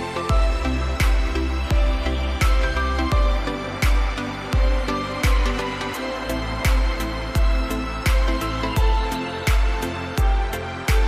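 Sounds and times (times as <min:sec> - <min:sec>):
deep bass drum beat: 0:00.3 - 0:05.6, 0:06.7 - 0:11.0.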